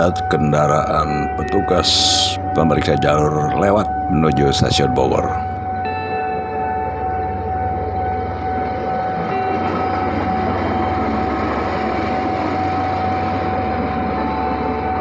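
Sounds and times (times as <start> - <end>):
rail noise: 0.0 - 15.0
steady whine: 0.0 - 15.0.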